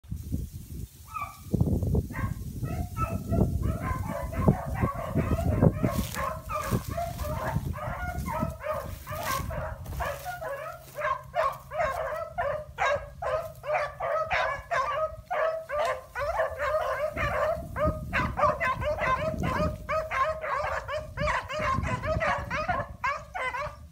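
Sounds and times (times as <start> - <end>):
rustling through dry grass: 0.0 - 22.0
dog barking and yipping: 1.1 - 1.5, 2.1 - 23.9.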